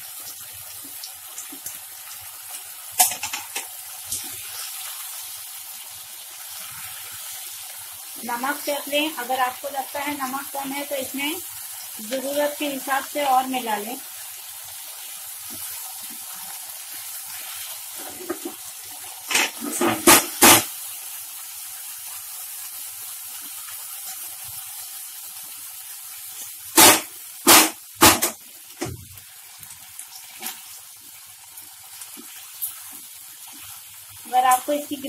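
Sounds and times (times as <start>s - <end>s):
food sizzling in a pan: 0.0s - 35.0s
spatula stirring in a pan: 0.6s - 10.8s, 14.1s - 27.9s, 30.3s - 34.8s.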